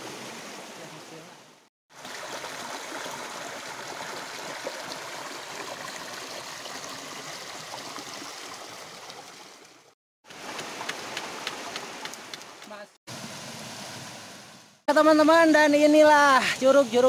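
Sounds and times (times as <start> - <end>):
stream rushing over rocks: 0.0 - 14.8.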